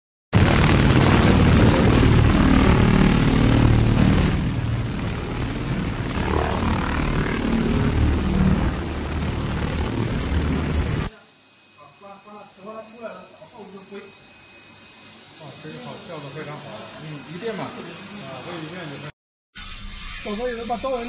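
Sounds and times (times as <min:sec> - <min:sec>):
laser buzzing hiss: 0:00.4 - 0:21.0.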